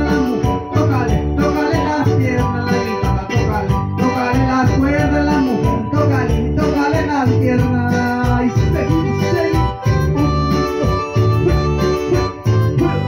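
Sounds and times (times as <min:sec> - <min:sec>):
acoustic guitar: 0:00.0 - 0:13.0
electronic keyboard: 0:00.0 - 0:13.0
rattling percussion beat: 0:00.0 - 0:13.0.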